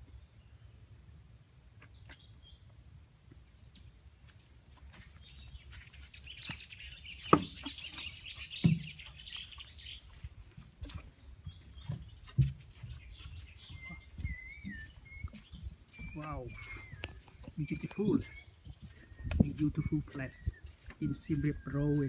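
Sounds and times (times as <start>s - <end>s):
birds chirping: 0.0s - 22.0s
footsteps on wooden boards: 3.8s - 22.0s.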